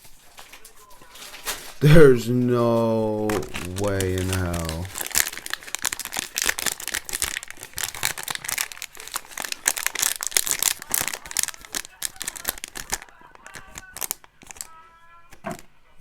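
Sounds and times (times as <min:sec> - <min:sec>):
foil wrapper crinkling: 0:00.0 - 0:01.9, 0:02.6 - 0:15.7.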